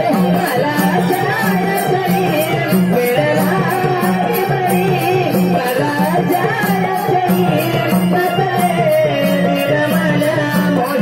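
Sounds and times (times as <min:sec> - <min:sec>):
barrel drum beat: 0:00.0 - 0:11.0
sustained wavering melody: 0:00.0 - 0:11.0.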